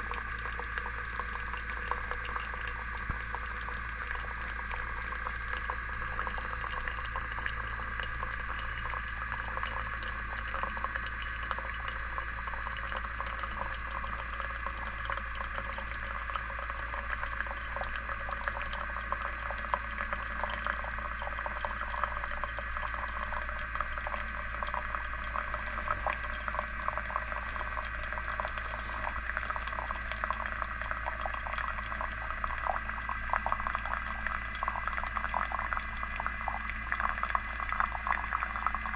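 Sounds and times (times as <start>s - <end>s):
pump humming: 0.0s - 38.9s
water trickling and dripping: 0.0s - 38.9s.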